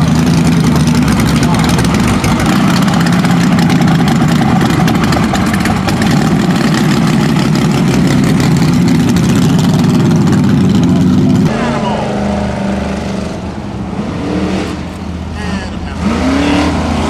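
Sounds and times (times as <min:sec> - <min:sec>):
buggy engine running loudly: 0:00.0 - 0:17.0.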